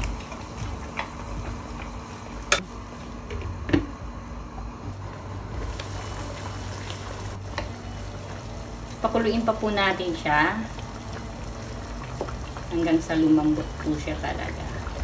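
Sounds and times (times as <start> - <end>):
broth bubbling in a pot: 0.0 - 15.0.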